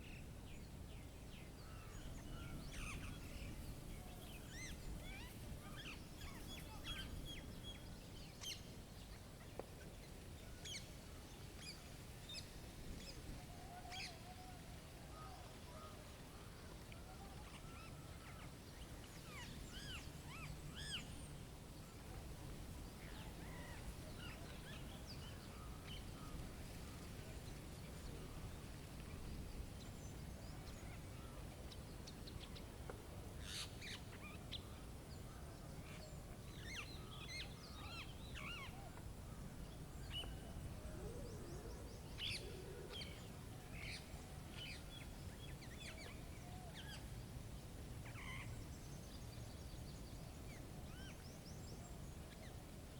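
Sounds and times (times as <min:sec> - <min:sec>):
small songbirds chirping: 0:00.0 - 0:14.3, 0:15.1 - 0:52.9
low rumble of wind: 0:00.0 - 0:52.9.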